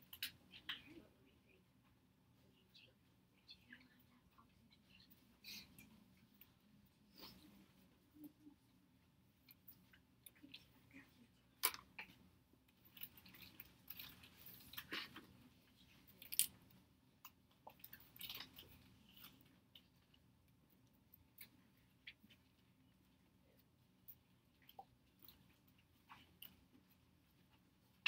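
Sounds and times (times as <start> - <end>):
small clicks and rustles: 0.0 - 28.0.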